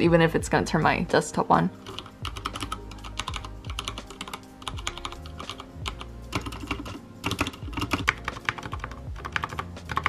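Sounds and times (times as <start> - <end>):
mechanical keyboard typing: 1.8 - 10.0.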